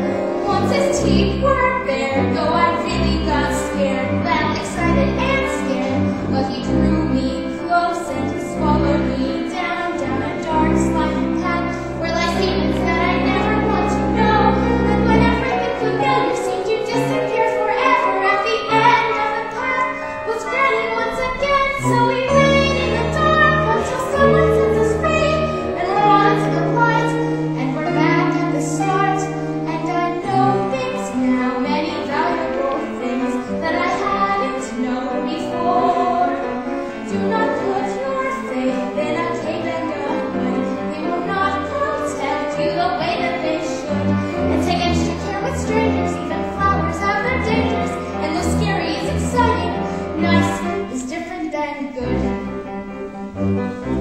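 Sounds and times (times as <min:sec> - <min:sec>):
young woman singing: 0:00.0 - 0:52.4
instrumental accompaniment: 0:00.0 - 0:54.0.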